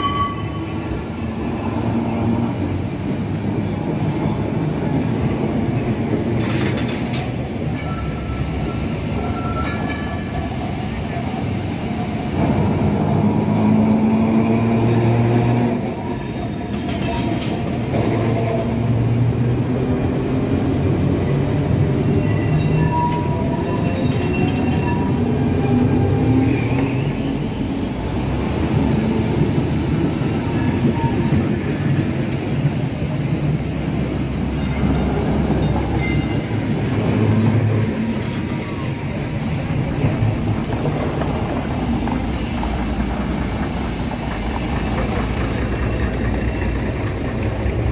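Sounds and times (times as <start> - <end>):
tram wheels rumbling on rails: 0.0 - 47.9.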